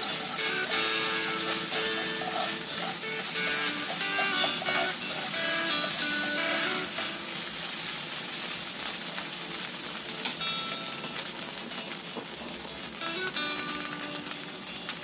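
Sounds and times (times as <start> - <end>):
rice sizzling in a frying pan: 0.0 - 15.0.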